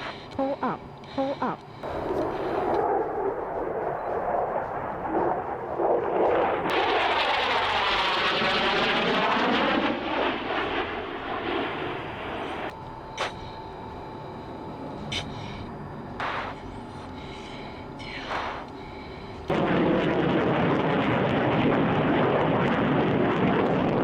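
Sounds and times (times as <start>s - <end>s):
jet aircraft passing: 0.0s - 24.0s.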